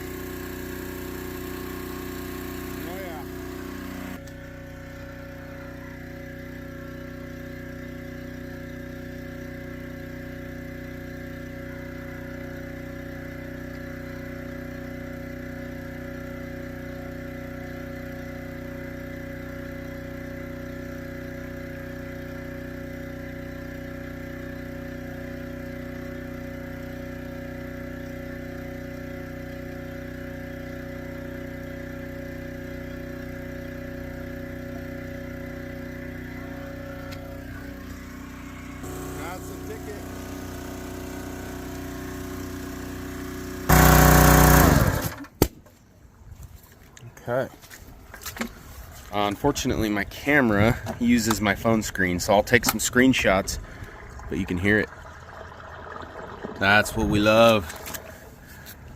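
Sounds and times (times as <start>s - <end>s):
pressure washer engine running: 0.0s - 45.3s, 56.2s - 58.9s.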